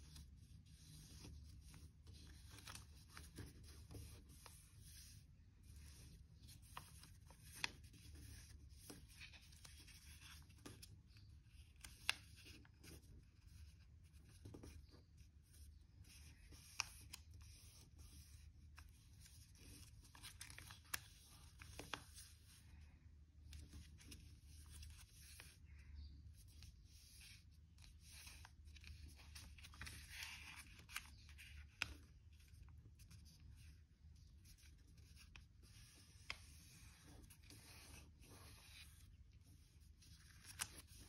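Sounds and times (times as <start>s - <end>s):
paper rustling and creasing: 0.0s - 14.9s, 16.0s - 22.8s, 26.4s - 41.0s.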